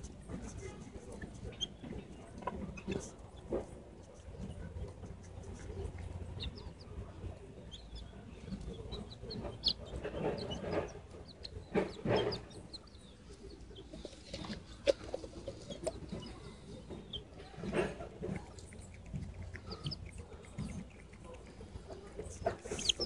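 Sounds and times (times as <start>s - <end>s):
chickens chirping: 0.0s - 23.0s
chickens clucking: 0.0s - 23.0s.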